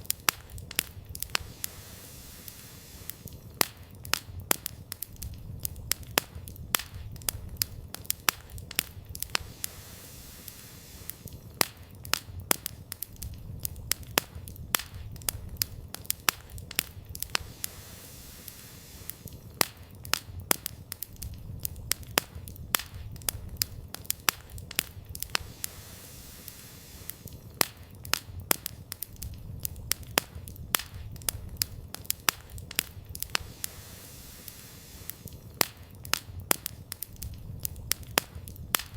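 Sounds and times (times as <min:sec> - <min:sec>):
firewood crackling and popping: 0:00.0 - 0:38.9
low rumble of flames: 0:00.0 - 0:38.9.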